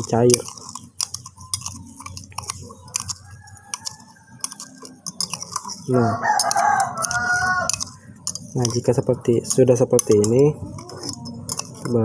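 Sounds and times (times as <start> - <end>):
metal spoon clinking in glass: 0.0 - 12.0.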